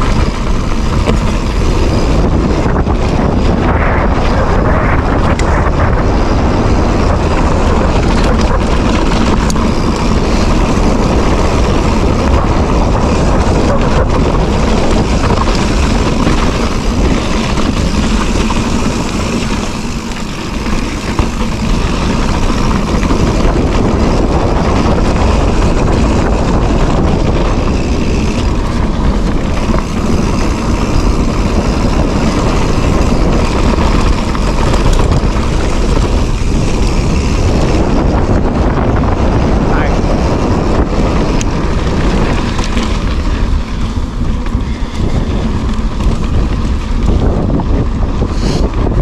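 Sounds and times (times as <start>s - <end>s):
bike rumbling over trail: 0.0s - 49.0s
wind rush on microphone: 0.0s - 49.0s.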